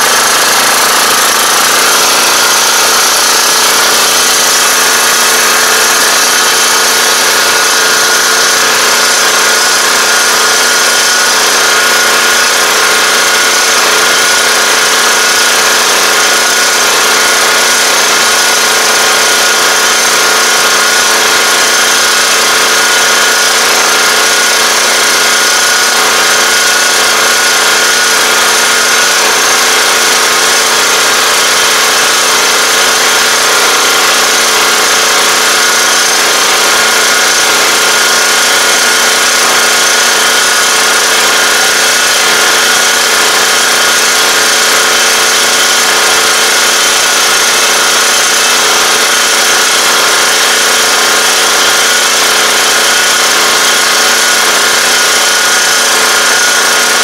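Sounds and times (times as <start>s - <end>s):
rice transplanter engine running: 0.0s - 57.0s
steady machine whine: 0.0s - 57.0s.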